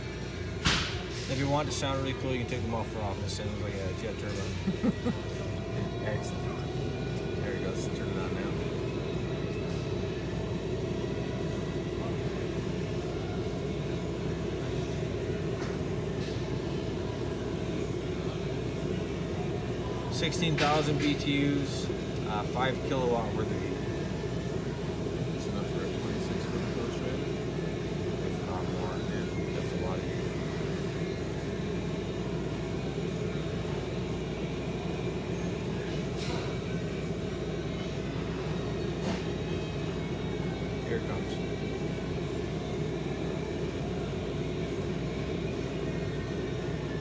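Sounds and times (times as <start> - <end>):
diesel air heater humming: 0.0 - 47.0.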